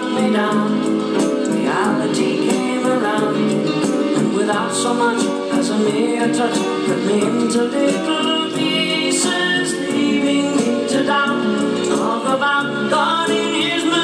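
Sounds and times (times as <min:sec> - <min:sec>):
song with singing and band: 0:00.0 - 0:14.0.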